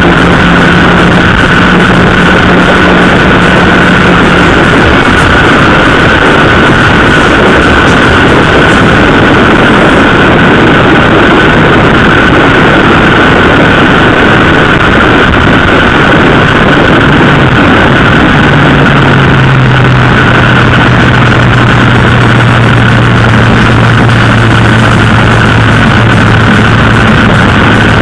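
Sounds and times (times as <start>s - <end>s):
motorcycle engine: 0.0s - 28.0s
rushing wind and road noise: 0.0s - 28.0s.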